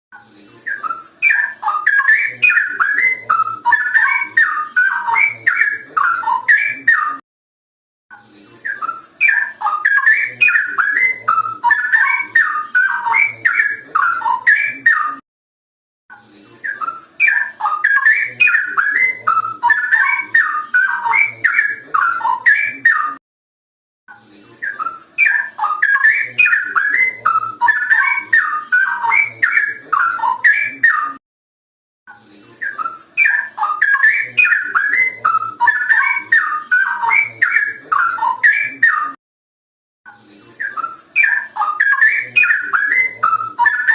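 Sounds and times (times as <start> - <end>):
bird song warbling whistles: 0.6 - 7.2, 8.7 - 15.2, 16.6 - 23.2, 24.6 - 31.2, 32.6 - 39.2, 40.6 - 43.9.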